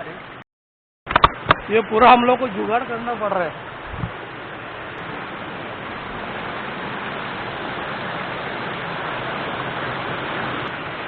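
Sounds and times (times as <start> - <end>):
river water rushing: 1.1 - 11.0.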